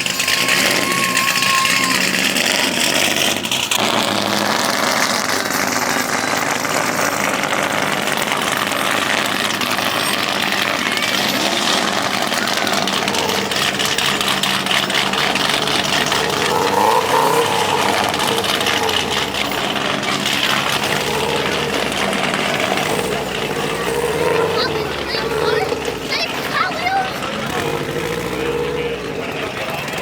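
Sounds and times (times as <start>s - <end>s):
car engine idling: 0.0s - 30.0s
people talking: 0.0s - 30.0s.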